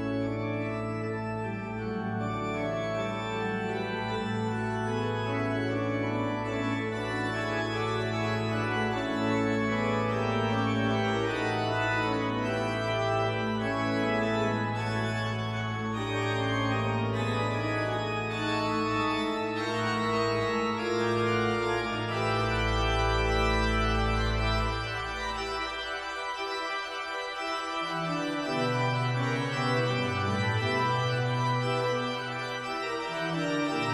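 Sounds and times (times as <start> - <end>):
pipe organ chords: 0.0 - 33.9.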